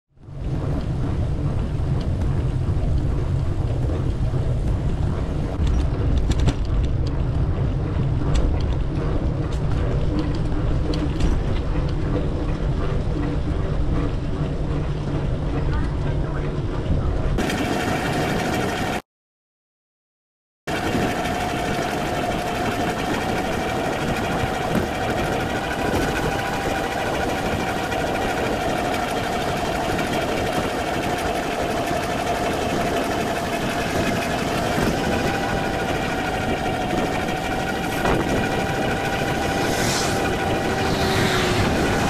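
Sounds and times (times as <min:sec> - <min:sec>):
wind: 0:00.1 - 0:19.0, 0:20.7 - 0:42.0
mechanical whine: 0:00.2 - 0:19.0, 0:20.7 - 0:42.0.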